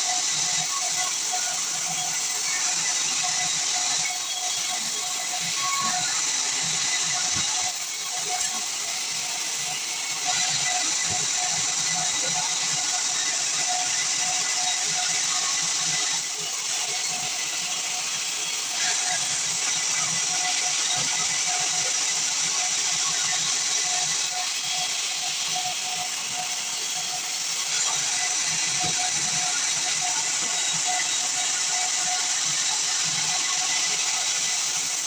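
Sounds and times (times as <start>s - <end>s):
band saw cutting wood: 0.0s - 35.0s.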